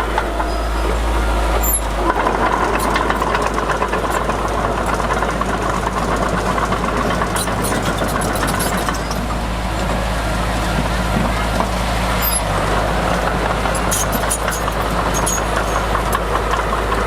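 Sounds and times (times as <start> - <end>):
heavy machinery diesel engine: 0.0 - 17.0
sharp clicks and rattles: 1.5 - 10.1, 10.7 - 17.0.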